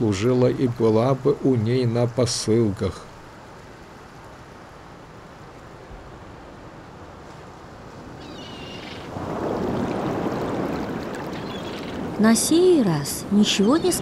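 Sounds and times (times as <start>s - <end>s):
sea surf washing: 0.0s - 14.0s.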